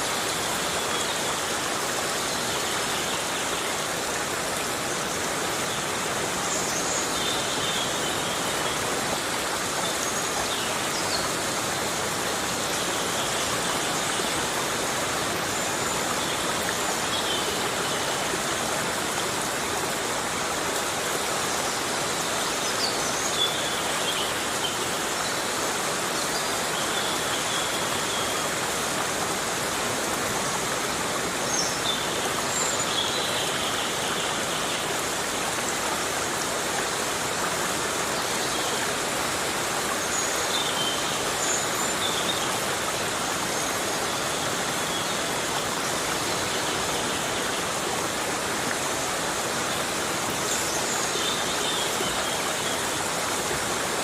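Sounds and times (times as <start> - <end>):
heavy rain in a forest: 0.0 - 54.0.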